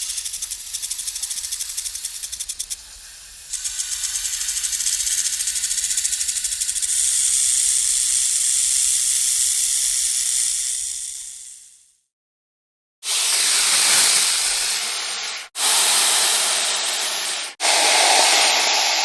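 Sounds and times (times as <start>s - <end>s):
snake rattling hiss: 0.0s - 11.6s, 13.0s - 19.0s.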